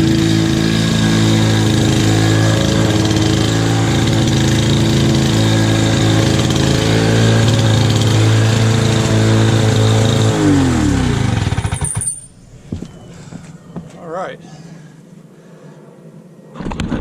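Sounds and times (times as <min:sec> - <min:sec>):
lawn mower engine running: 0:00.0 - 0:13.8.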